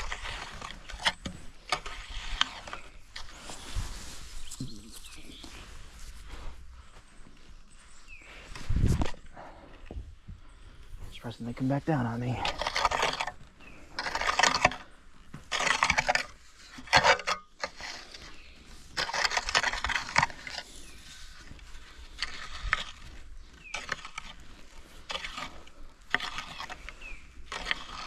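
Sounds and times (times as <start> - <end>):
scraping in sand and stone: 0.0 - 9.7, 11.0 - 28.0.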